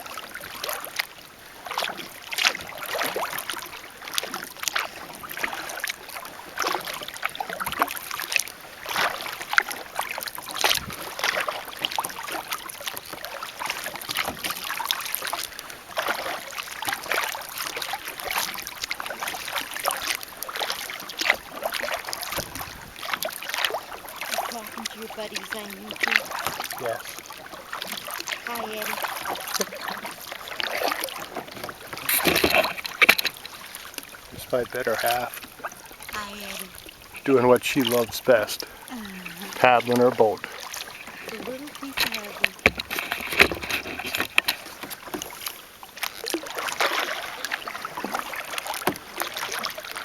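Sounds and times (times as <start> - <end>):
water dripping from paddle: 0.0 - 43.5, 44.2 - 50.0
paddle splashing in water: 0.0 - 50.0.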